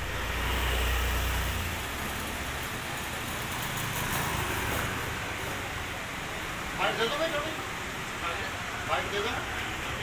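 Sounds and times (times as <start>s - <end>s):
steady noisy hiss: 0.0s - 10.0s.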